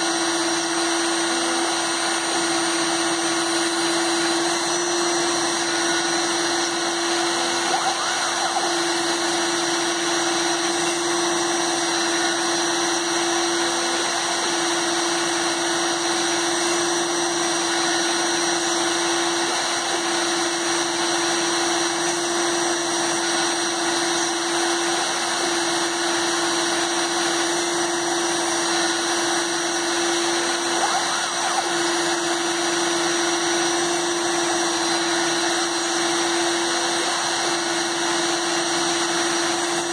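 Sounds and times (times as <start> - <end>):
rotary tool drilling circuit board: 0.0 - 39.9.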